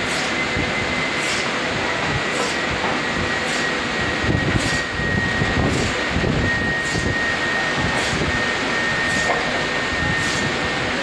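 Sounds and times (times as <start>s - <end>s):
high whine: 0.0s - 11.0s
sawmill machinery running: 0.0s - 11.0s.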